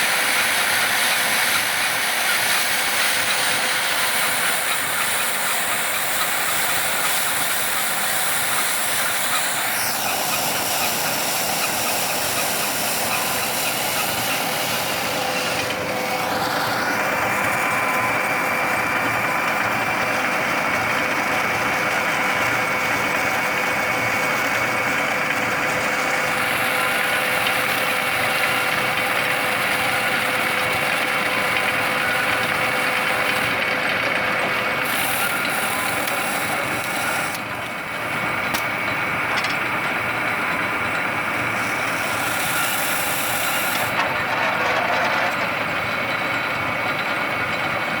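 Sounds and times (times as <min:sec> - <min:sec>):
baler machine running with whine: 0:00.0 - 0:48.0.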